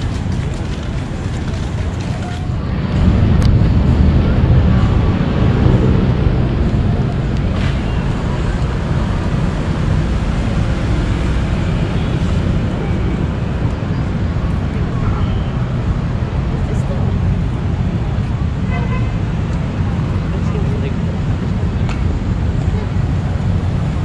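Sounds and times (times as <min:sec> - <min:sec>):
city noise rumble: 0:00.0 - 0:24.0
faint voices of passers-by: 0:00.0 - 0:24.0.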